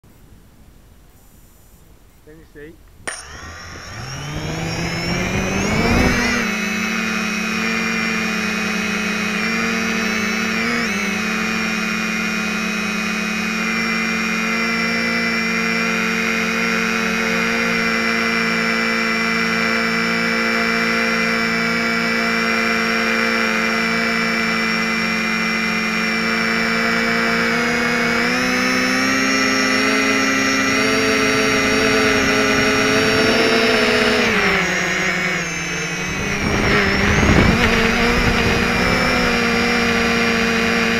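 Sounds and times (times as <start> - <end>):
drone motors and propellers whining: 3.0 - 40.9.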